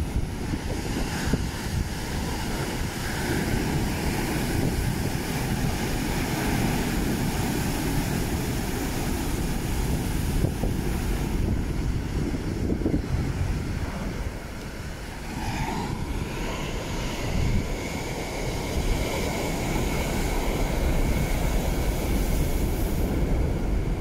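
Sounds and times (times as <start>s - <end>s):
sea waves crashing on rocks: 0.0s - 24.0s
wind buffeting microphone: 0.0s - 24.0s.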